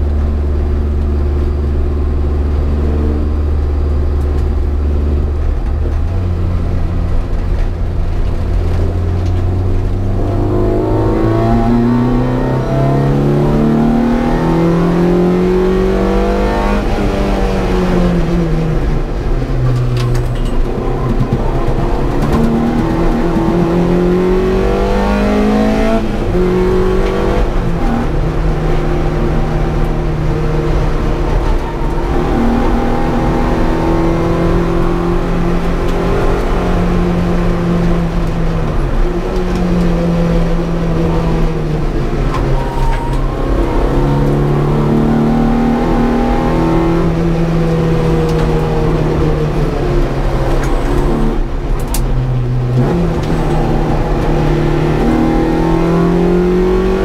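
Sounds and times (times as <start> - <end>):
car engine revving hard: 8.6 - 19.2, 21.0 - 57.0.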